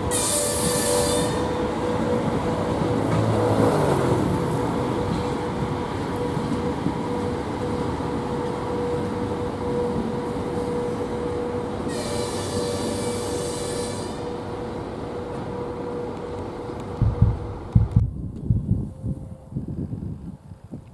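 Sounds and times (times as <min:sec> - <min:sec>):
electric locomotive rumble and hum: 0:00.0 - 0:20.9.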